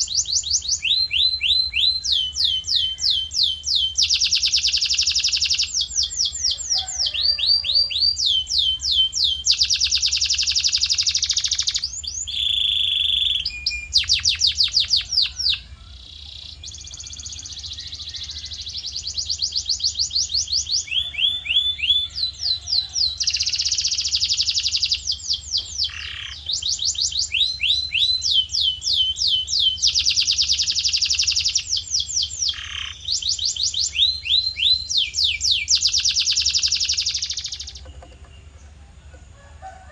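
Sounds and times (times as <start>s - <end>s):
canary singing trills: 0.0s - 39.3s.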